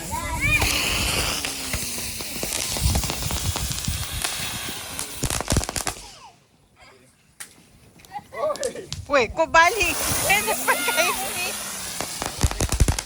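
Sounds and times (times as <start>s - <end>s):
firecrackers crackling and popping: 0.0s - 6.4s, 8.5s - 13.0s.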